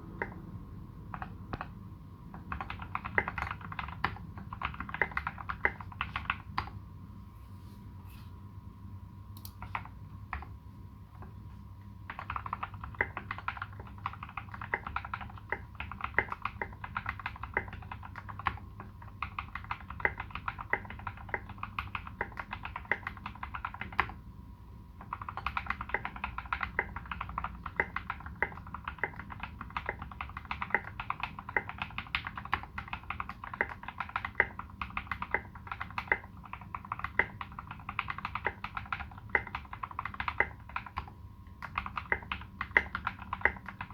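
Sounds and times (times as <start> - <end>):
mechanical keyboard typing: 1.0 - 6.8, 9.4 - 10.6, 12.0 - 24.2, 25.0 - 43.9.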